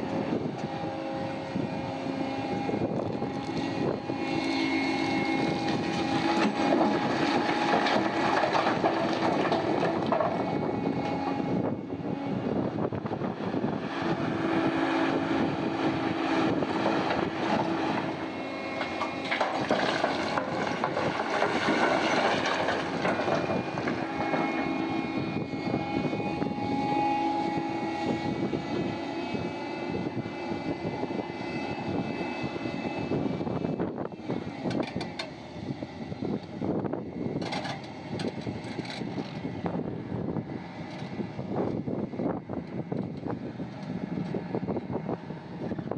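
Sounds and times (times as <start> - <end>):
heavy diesel machinery droning: 0.0 - 45.9.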